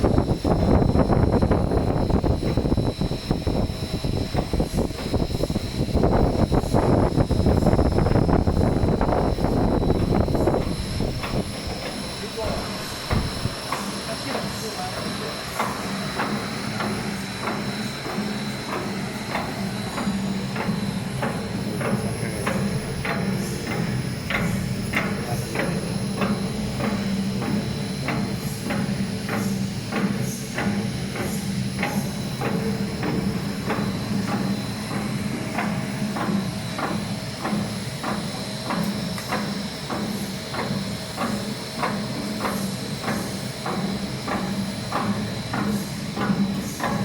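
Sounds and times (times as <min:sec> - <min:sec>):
machine humming: 0:00.0 - 0:47.0.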